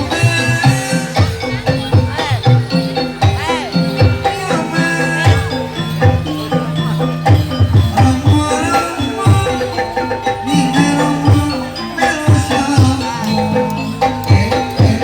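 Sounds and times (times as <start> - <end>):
hand drums beating a rhythm: 0.0 - 15.0
ringing metallophone tones: 0.0 - 15.0.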